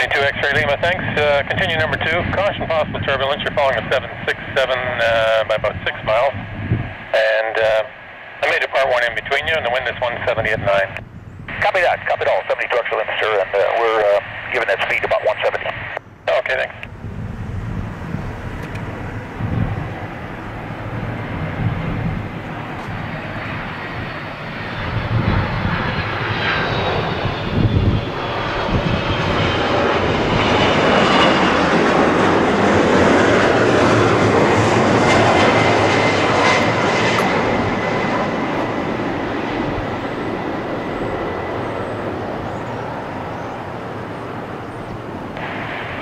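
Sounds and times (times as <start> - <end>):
high engine whine: 0.0 - 46.0
jet engines passing overhead: 0.0 - 46.0.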